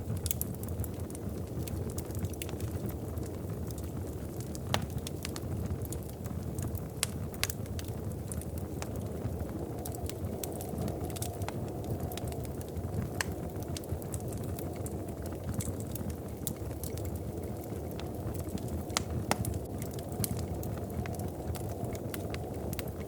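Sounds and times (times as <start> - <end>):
fire crackling and popping: 0.0 - 23.0
wood fire burning: 0.0 - 23.0.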